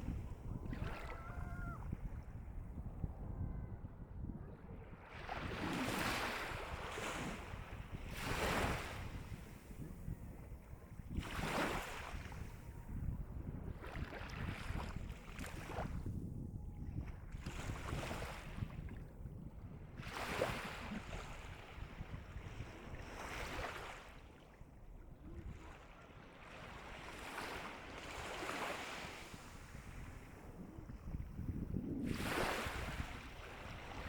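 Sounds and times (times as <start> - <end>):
gentle sea waves breaking: 0.0 - 2.6, 5.0 - 16.1, 16.8 - 19.1, 19.8 - 34.0.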